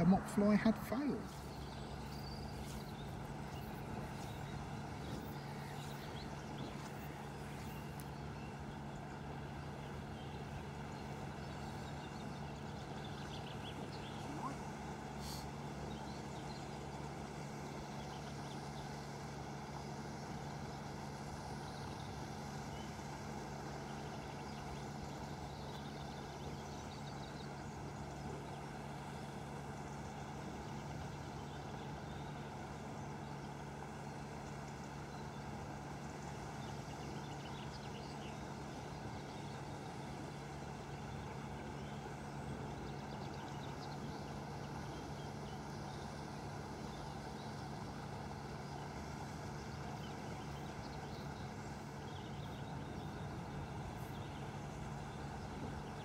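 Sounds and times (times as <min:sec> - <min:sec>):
aeration unit mechanical hum: 0:00.0 - 0:56.0.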